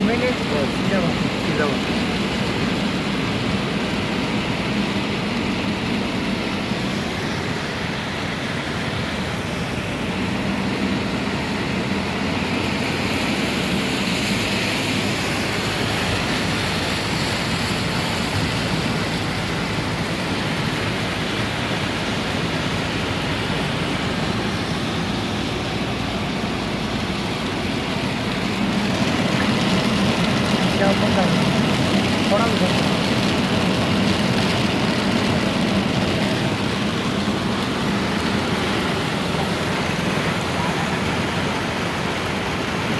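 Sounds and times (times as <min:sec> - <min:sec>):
car driving on wet road: 0:00.0 - 0:42.9
heavy rain hissing: 0:00.0 - 0:42.9.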